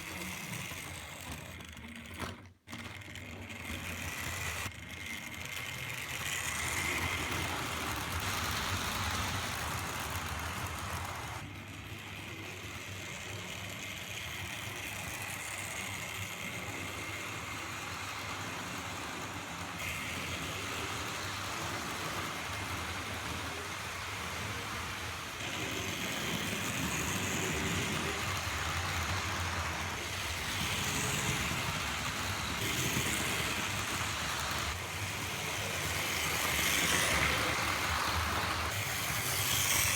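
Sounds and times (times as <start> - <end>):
model train motor whirring: 0.0 - 39.9
wheels running on rails: 0.0 - 39.9.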